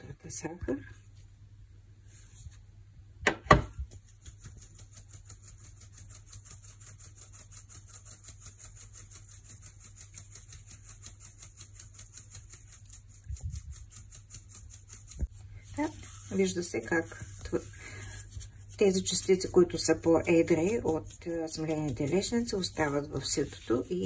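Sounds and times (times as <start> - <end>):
sieve rasping: 3.9 - 24.0.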